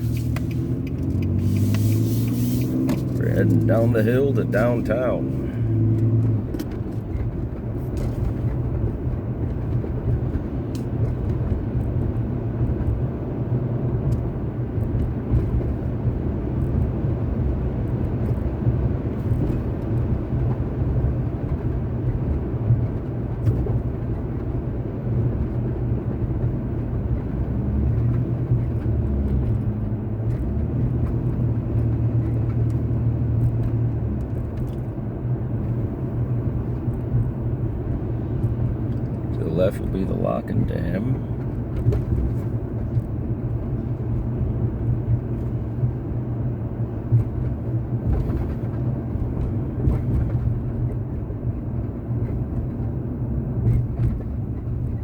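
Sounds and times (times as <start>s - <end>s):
car engine rumble: 0.0s - 55.0s
tyre road noise: 0.0s - 55.0s.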